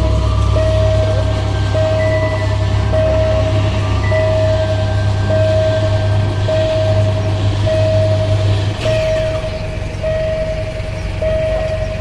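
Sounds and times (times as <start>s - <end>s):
level crossing warning tone: 0.0s - 12.0s
low engine rumble: 0.0s - 12.0s.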